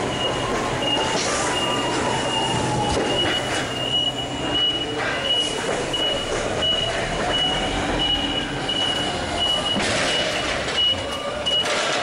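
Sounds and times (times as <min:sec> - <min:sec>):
forklift warning beeper: 0:00.0 - 0:12.0
forklifts running: 0:00.0 - 0:12.0.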